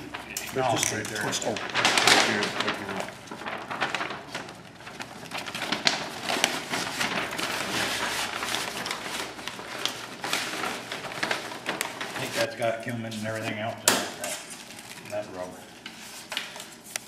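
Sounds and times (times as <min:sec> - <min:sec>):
rustling handling noise: 0:00.0 - 0:17.0.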